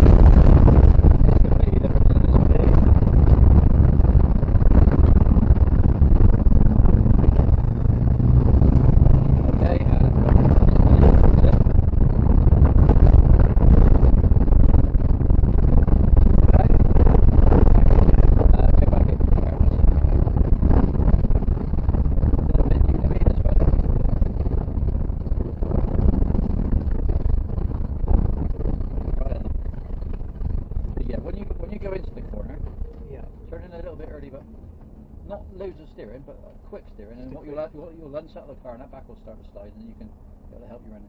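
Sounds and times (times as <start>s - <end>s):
car engine under load: 0.0s - 41.0s.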